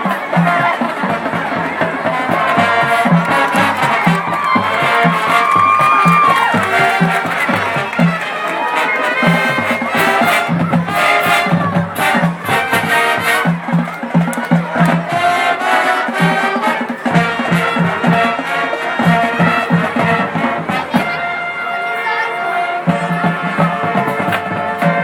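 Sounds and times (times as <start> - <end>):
crowd noise: 0.0 - 25.0
marching band playing swing jazz: 0.0 - 25.0.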